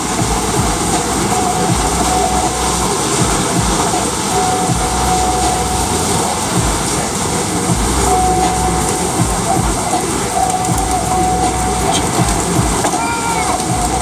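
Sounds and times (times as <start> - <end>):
faint whine: 0.0 - 14.0
machinery running: 0.0 - 14.0.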